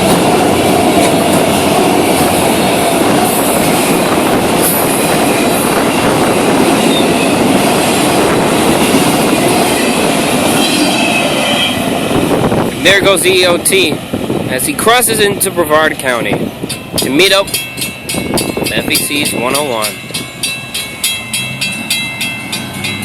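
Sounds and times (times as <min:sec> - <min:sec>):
train wheels clattering on rails: 0:00.0 - 0:13.4, 0:16.3 - 0:23.0.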